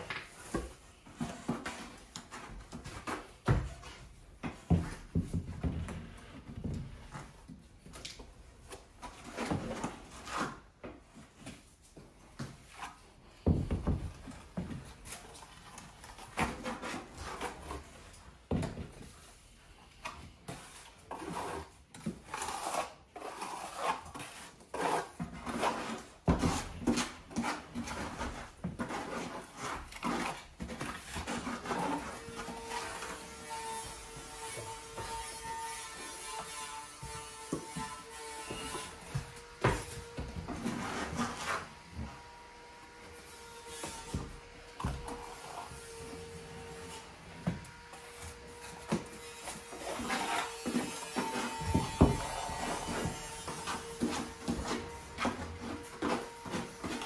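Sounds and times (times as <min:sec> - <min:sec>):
scraping and rubbing building materials: 0:00.0 - 0:57.0.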